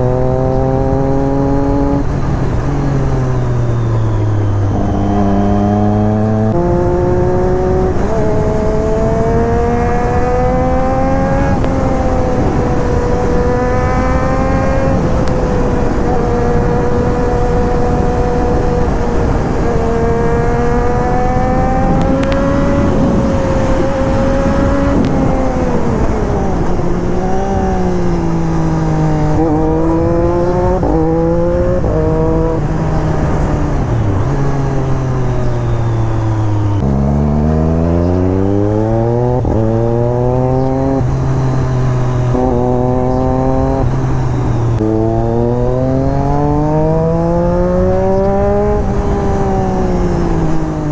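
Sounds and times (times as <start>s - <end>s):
motorcycle engine revving: 0.0s - 50.9s
steady rushing noise: 0.0s - 50.9s.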